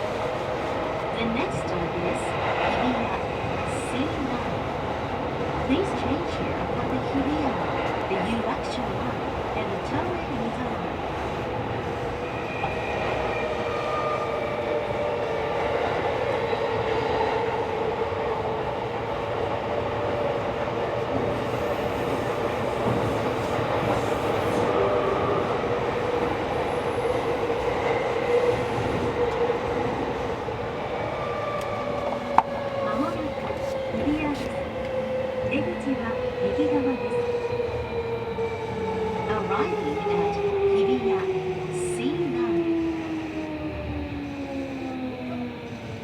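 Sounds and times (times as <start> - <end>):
subway train wheels rumbling: 0.0 - 46.0.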